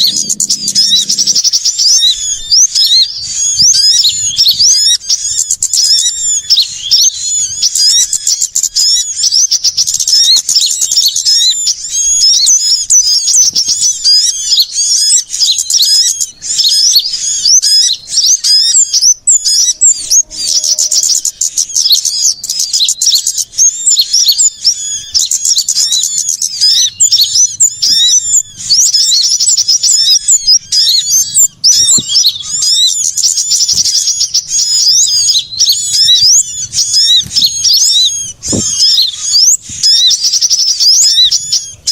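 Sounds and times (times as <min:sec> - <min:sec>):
small birds chirping chorus: 0:00.0 - 0:41.9.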